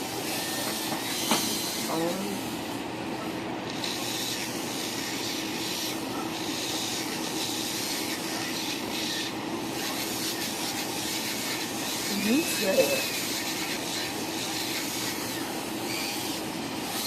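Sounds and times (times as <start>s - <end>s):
electric nail drill whirring: 0.0s - 3.0s, 3.6s - 17.0s.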